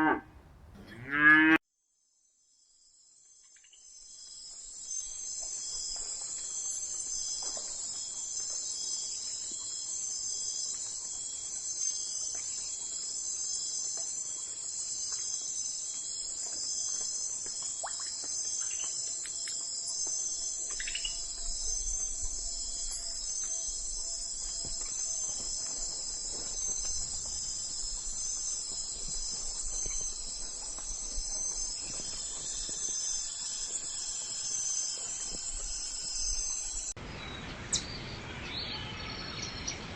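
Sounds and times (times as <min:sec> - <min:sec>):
insects trilling: 0:02.9 - 0:37.0.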